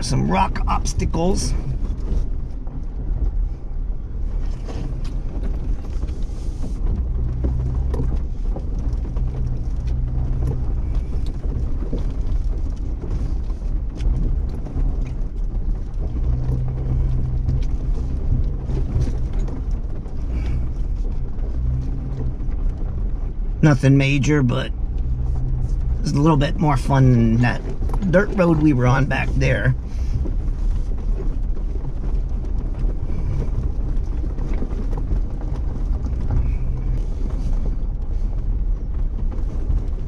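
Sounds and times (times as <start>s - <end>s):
engine droning: 0.0s - 40.0s.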